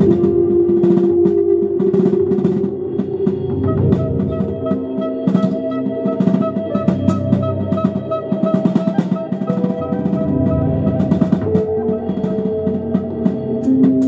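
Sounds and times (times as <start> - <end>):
fast dense drumming: 0.0 - 14.0
long held notes: 0.0 - 14.0.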